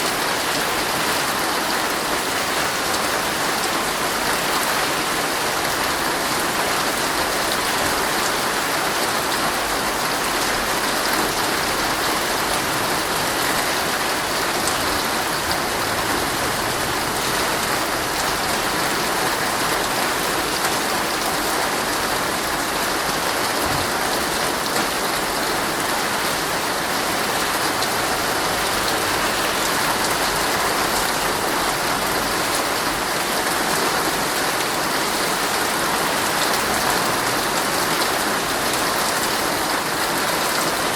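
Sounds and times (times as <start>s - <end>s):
heavy rain on tent fabric: 0.0s - 40.9s.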